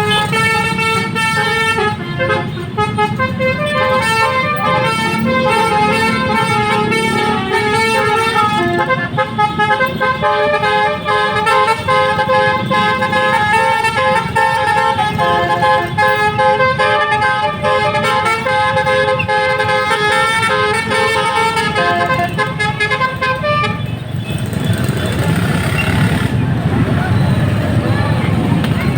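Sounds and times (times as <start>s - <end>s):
multi-tone bus horn playing a tune: 0.0s - 26.3s.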